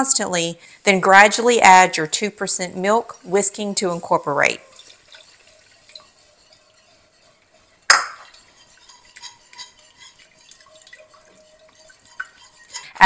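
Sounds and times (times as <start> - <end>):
whisk stirring in a pot: 0.0 - 13.0
whisk ticking against pot: 0.9 - 13.0.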